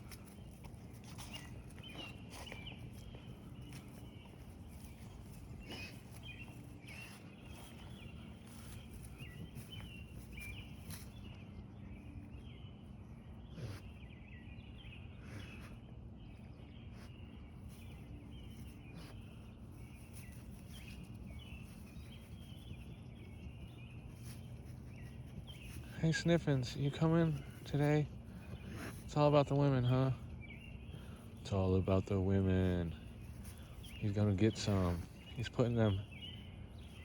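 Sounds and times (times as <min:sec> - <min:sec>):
low background hum: 0:00.0 - 0:37.0
songbirds chirping: 0:00.0 - 0:37.0.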